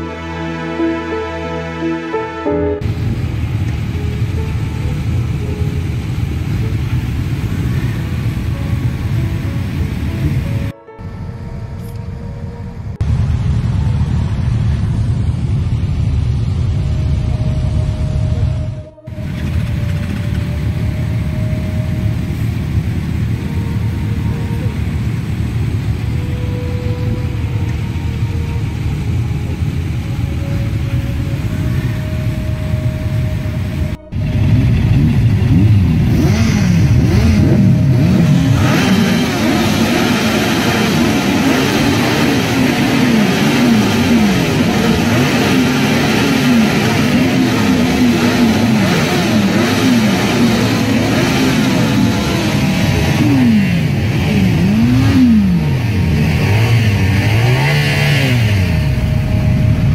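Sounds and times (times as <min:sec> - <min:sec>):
motorcycle engines rumbling: 0:00.0 - 0:59.9.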